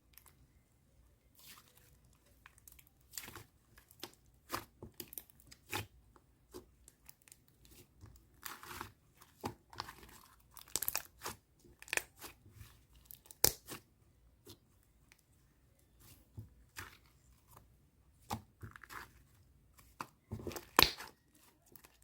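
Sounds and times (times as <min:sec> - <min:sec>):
slime crackling and squishing: 0:01.3 - 0:22.0.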